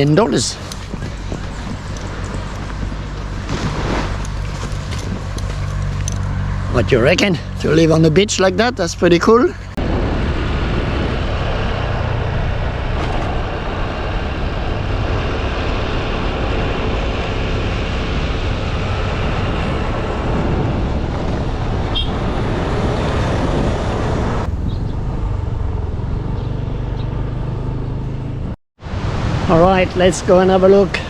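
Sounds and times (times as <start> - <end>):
road and wind noise: 0.0 - 31.0
vehicle engine hum: 0.0 - 31.0.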